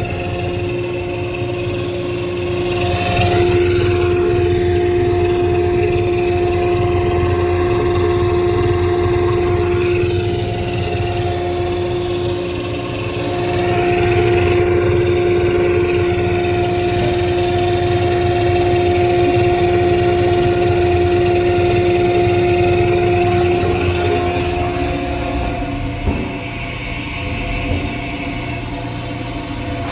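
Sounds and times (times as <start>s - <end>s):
motor-driven machine humming: 0.0s - 29.9s
steady machine whine: 0.0s - 29.9s.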